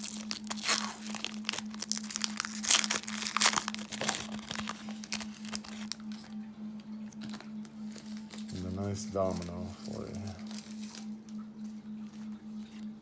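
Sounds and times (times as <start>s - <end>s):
trading cards crinkling and rustling: 0.0s - 12.9s
steady low hum: 0.0s - 13.0s.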